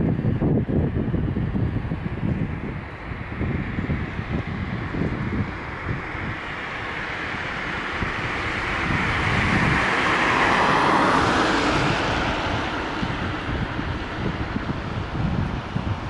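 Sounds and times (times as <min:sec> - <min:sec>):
wind buffeting microphone: 0:00.0 - 0:16.0
car passing by: 0:02.3 - 0:16.0.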